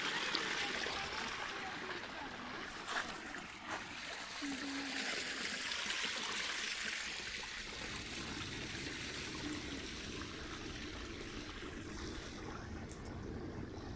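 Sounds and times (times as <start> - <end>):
stream water rushing and trickling: 0.0 - 13.9.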